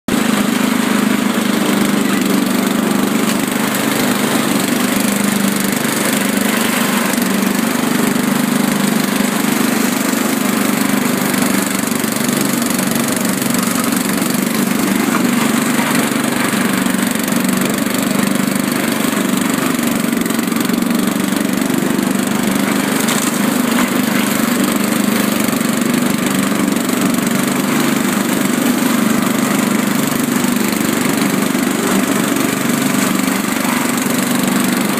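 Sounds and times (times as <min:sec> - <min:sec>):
riding lawn mower engine running: 0:00.0 - 0:34.9.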